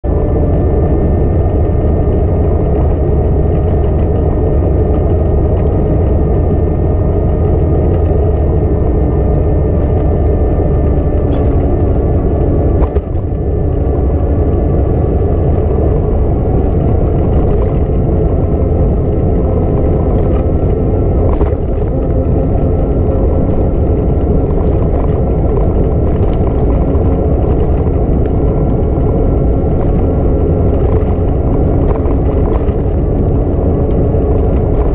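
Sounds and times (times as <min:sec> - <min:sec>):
faint steady whine: 0:00.0 - 0:34.9
wind buffeting microphone: 0:00.0 - 0:34.9.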